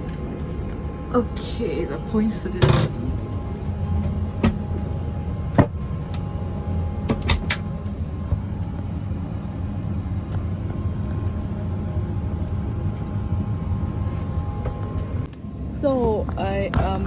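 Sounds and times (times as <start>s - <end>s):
airliner cabin hum: 0.0s - 17.0s
faint steady whine: 0.0s - 17.0s.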